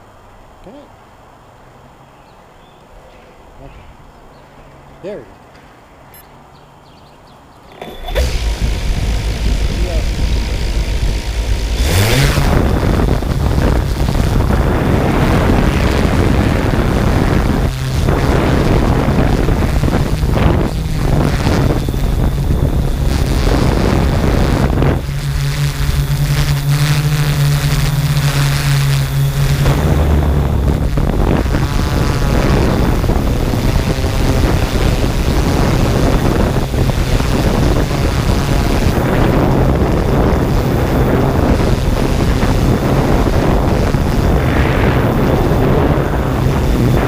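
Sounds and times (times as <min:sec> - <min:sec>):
drone propellers humming: 0:07.6 - 0:47.0
wind buffeting microphone: 0:07.7 - 0:47.0.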